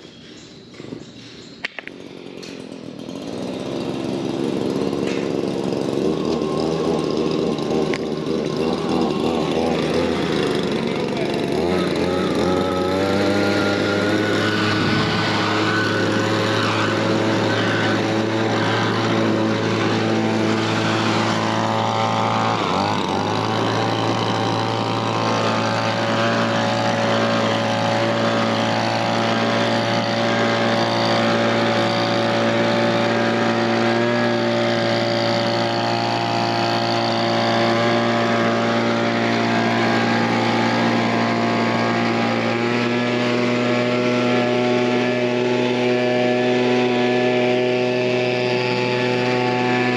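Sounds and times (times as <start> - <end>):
engine running: 0.0 - 49.9.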